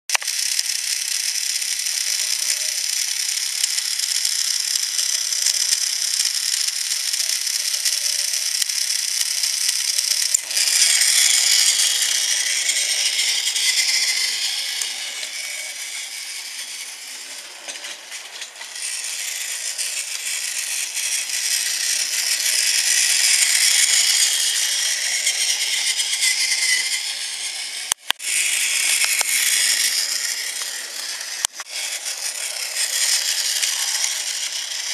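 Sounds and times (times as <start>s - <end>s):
toy train motors whirring: 0.1s - 34.9s.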